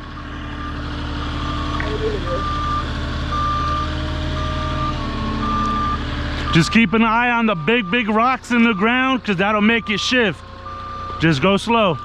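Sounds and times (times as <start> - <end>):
engine low hum: 0.0 - 12.0
backup alarm beeping: 1.4 - 12.0.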